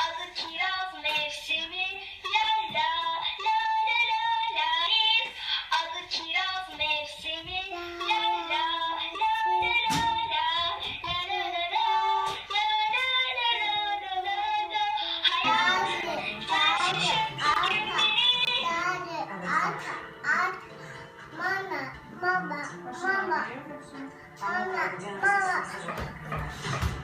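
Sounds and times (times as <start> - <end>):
child singing: 0.0 - 20.7, 21.3 - 23.6, 24.4 - 25.6.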